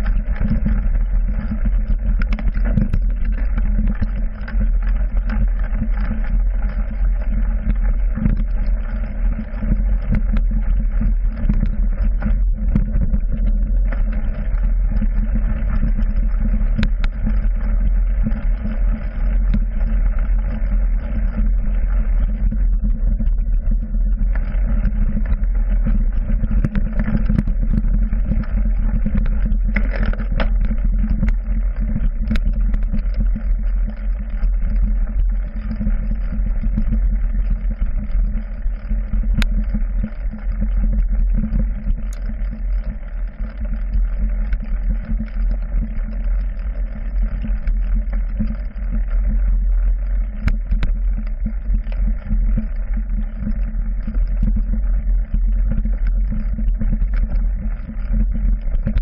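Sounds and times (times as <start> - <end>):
bike rumbling and rattling: 0.0 - 59.0.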